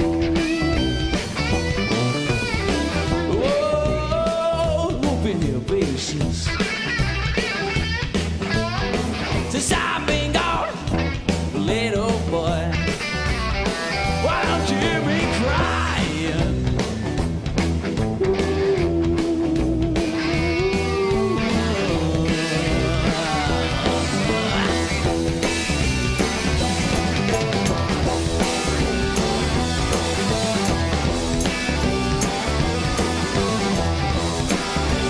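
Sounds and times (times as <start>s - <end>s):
bass guitar: 0.0s - 35.0s
drums: 0.0s - 35.0s
electric guitar: 0.0s - 35.0s.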